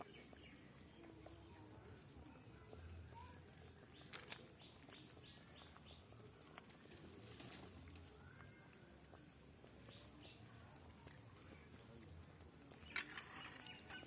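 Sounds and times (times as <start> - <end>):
quiet rural ambience: 0.0 - 14.0.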